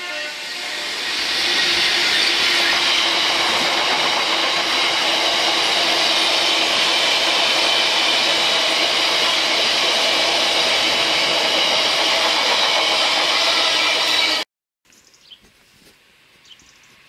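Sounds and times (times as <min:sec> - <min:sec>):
steel wheels rushing on rail: 0:00.0 - 0:14.4.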